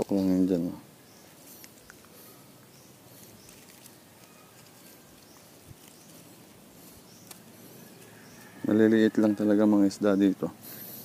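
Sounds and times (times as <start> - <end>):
soft steady hiss: 0.0 - 11.0.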